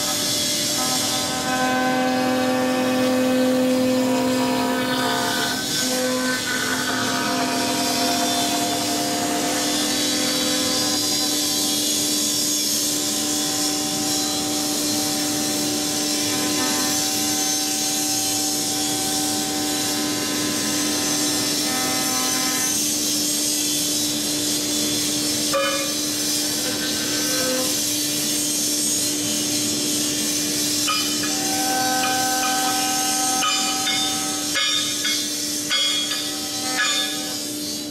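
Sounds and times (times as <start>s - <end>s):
router spindle whine: 0.0s - 37.9s.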